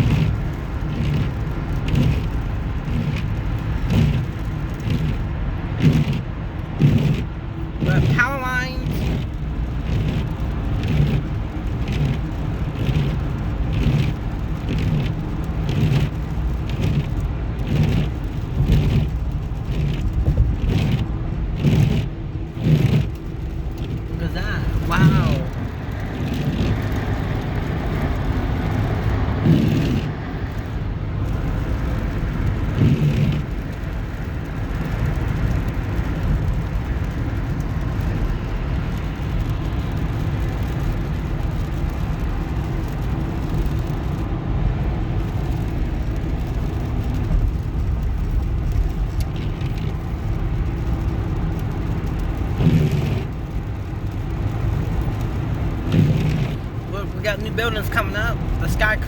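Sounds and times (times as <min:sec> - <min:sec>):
road noise inside moving vehicle: 0:00.0 - 0:59.0.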